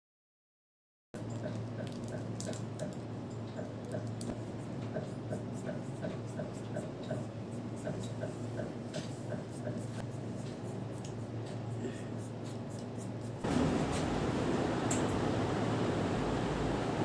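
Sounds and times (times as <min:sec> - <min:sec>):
low steady hum: 0:01.2 - 0:17.0.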